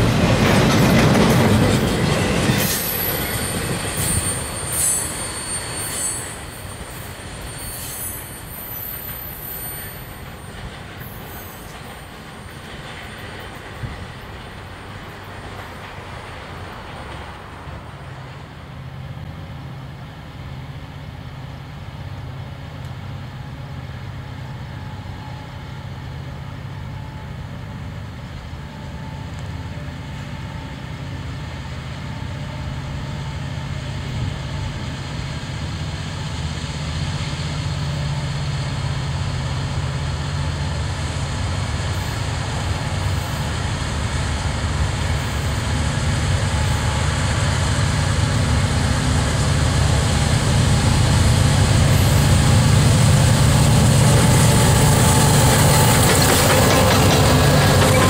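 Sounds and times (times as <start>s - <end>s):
diesel locomotives droning: 0.0s - 58.0s
freight train cars rolling: 0.0s - 58.0s.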